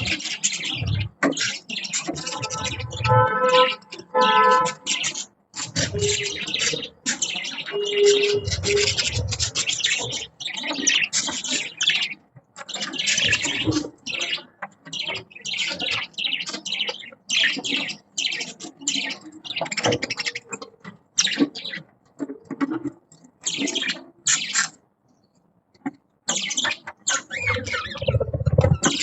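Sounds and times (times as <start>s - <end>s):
budgies chirping: 0.0s - 29.0s.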